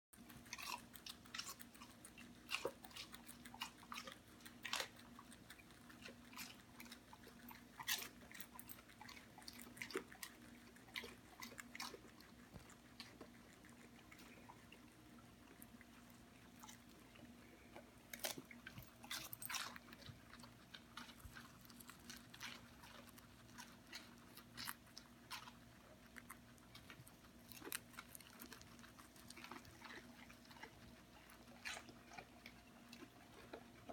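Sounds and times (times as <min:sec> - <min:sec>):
animals munching leafy greens: 0:00.2 - 0:33.9
faint steady hum: 0:00.2 - 0:33.9.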